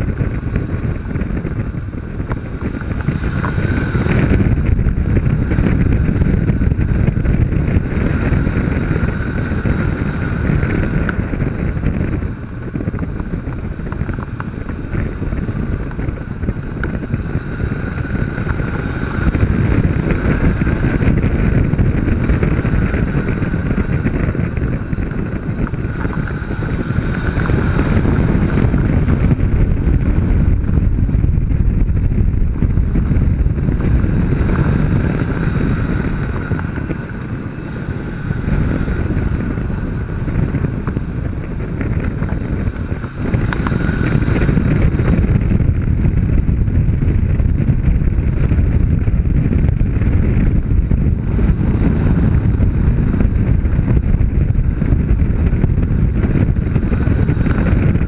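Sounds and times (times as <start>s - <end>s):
motorcycle engine pulling: 0.0s - 58.0s
wind rush on microphone: 0.0s - 58.0s.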